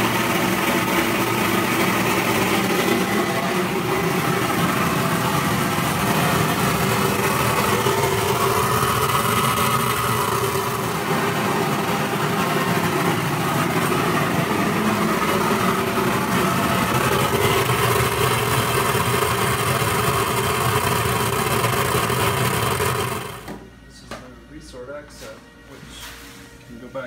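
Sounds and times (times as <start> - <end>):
sorting machine humming: 0.0 - 23.7.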